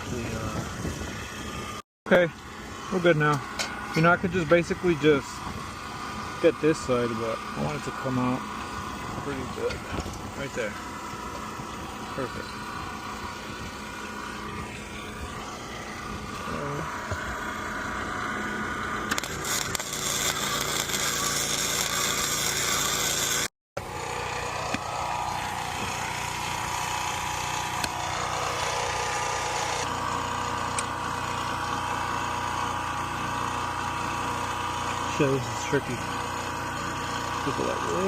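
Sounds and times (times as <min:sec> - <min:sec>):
small engine running: 0:00.0 - 0:38.0
tool hissing: 0:02.6 - 0:38.0.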